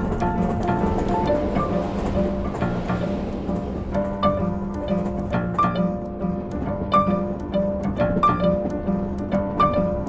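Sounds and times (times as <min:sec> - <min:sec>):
string music: 0:00.0 - 0:10.0.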